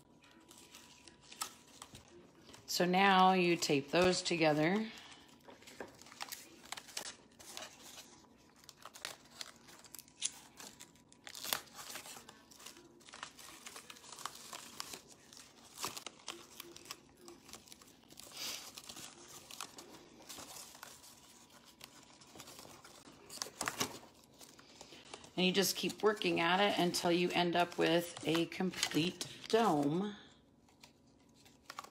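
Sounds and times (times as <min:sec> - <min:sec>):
cardboard crinkling and rustling: 0:00.1 - 0:31.9.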